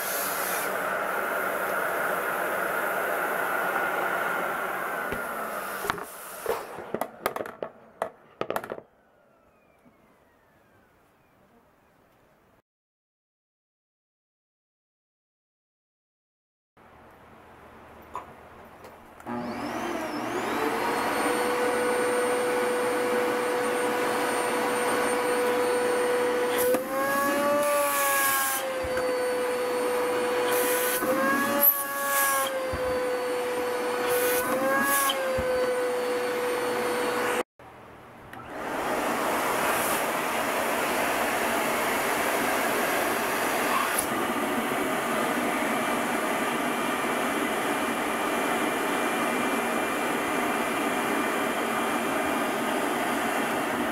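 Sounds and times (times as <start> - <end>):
vacuum cleaner whine: 0.0 - 7.4, 9.2 - 11.3, 19.2 - 37.5, 38.3 - 53.9.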